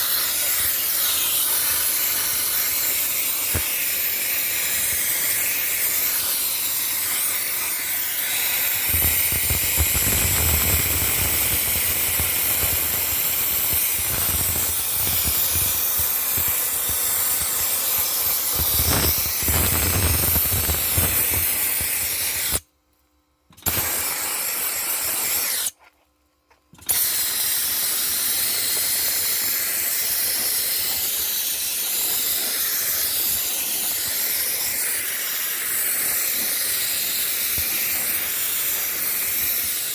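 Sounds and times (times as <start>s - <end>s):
dry-ice blasting gun hissing: 0.0s - 22.6s, 23.6s - 25.8s, 26.8s - 39.9s.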